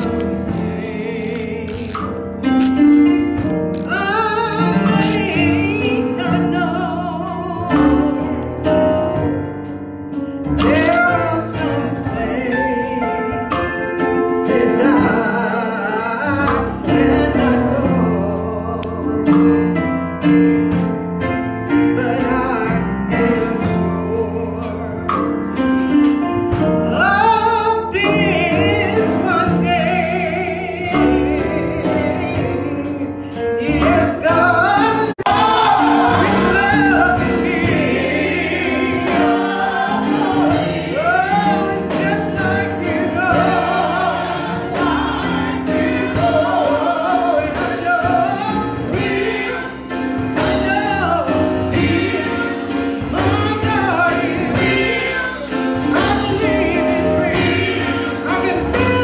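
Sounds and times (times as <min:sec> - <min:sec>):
electronic keyboard chords: 0:00.0 - 0:59.0
gospel singing through speakers: 0:00.0 - 0:59.0.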